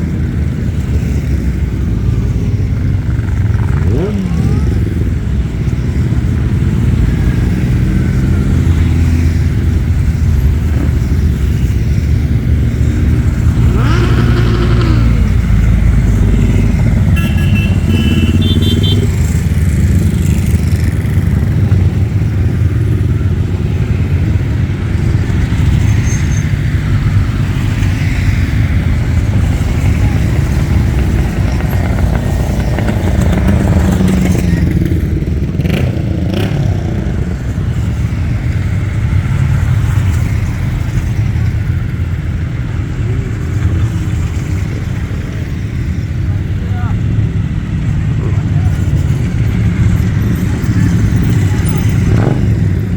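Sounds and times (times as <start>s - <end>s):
motorcycle engine revving: 0.0s - 52.9s
motorcycle engines running: 0.0s - 52.9s.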